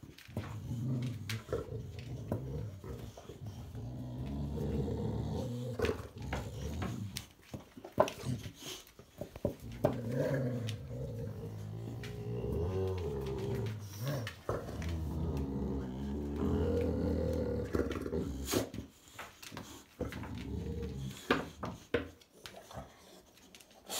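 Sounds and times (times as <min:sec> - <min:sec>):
dogs growling: 0:00.0 - 0:23.9.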